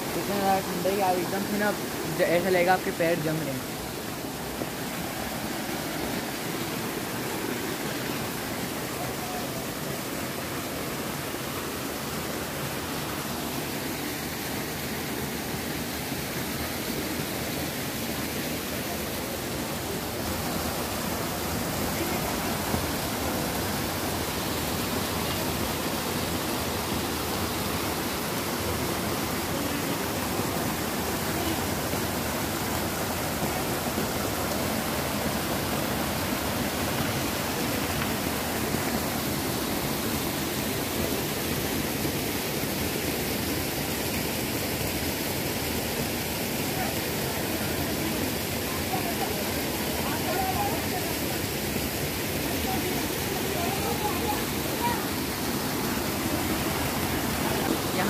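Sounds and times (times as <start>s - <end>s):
waterfall and stream rushing: 0.0s - 58.0s.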